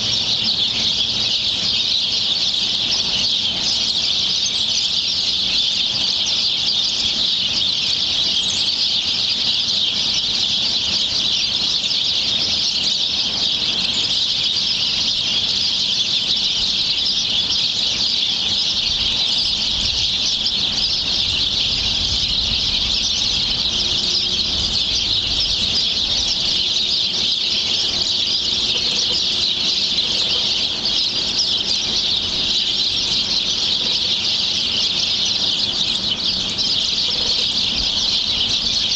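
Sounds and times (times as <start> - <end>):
many birds chirping: 0.0 - 38.9.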